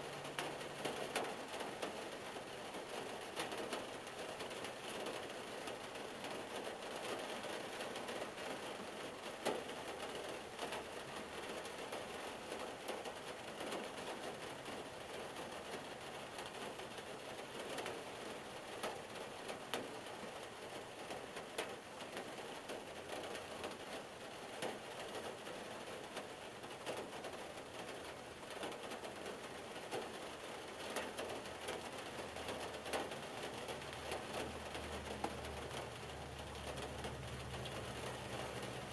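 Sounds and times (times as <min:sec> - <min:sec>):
rain pattering on a car: 0:00.0 - 0:38.9.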